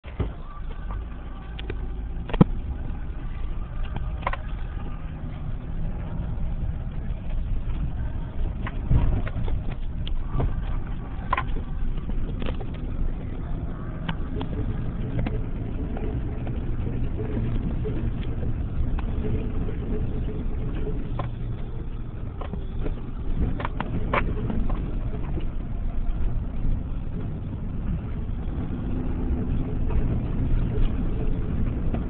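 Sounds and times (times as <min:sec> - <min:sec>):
car engine rumbling: 0:00.0 - 0:32.0.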